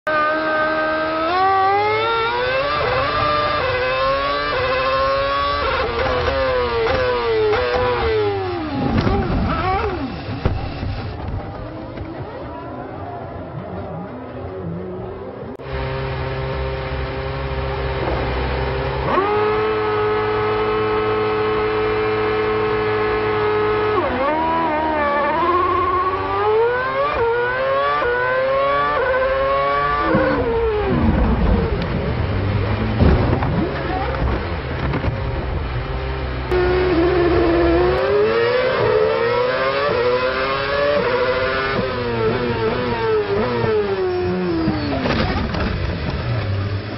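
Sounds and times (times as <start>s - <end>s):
racing car engine accelerating: 0.1s - 12.5s, 14.6s - 46.9s.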